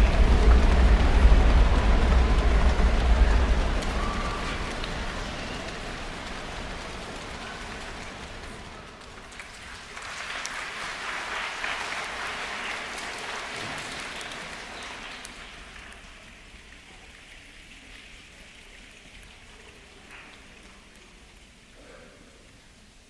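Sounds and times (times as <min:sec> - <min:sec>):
people making rain sounds with hands: 0:00.0 - 0:23.0.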